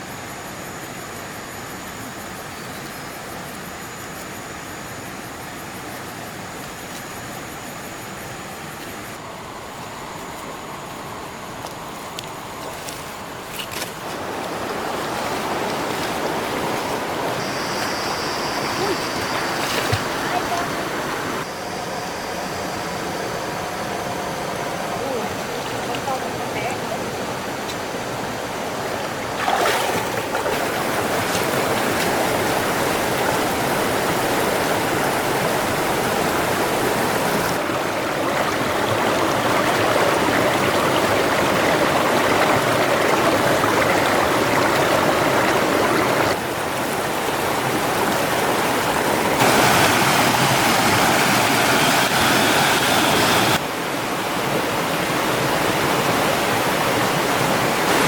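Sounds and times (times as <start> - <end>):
running water rushing: 8.6 - 58.0.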